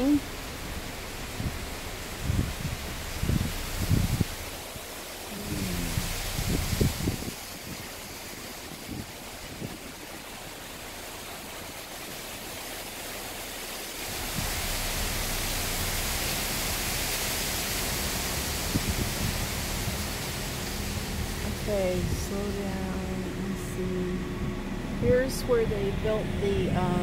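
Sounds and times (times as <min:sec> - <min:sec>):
low rumble: 0:00.0 - 0:09.8, 0:14.1 - 0:27.0
water rushing hiss: 0:00.0 - 0:27.0.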